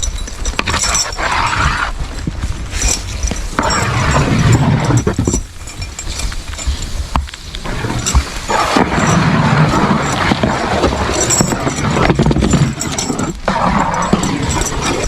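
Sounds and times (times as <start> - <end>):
hoof thuds: 0.0 - 14.8
steady rushing noise: 0.0 - 15.0.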